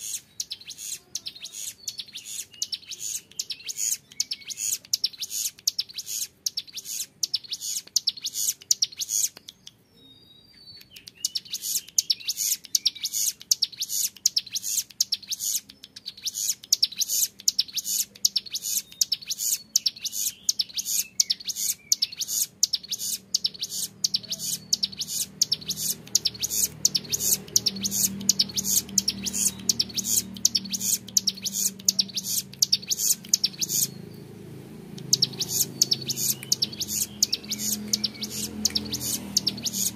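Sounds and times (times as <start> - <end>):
bird singing high clear notes: 0.0 - 34.3, 34.9 - 39.9.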